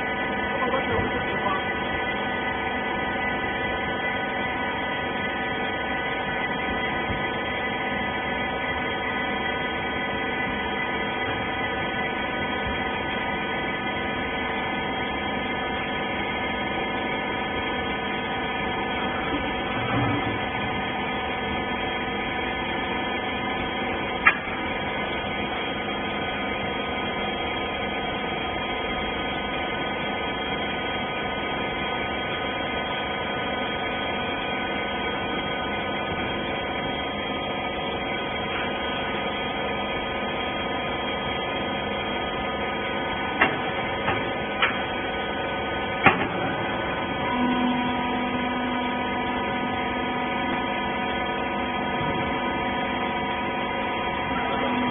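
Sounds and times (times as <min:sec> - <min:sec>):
motor and pump humming: 0:00.0 - 0:54.9.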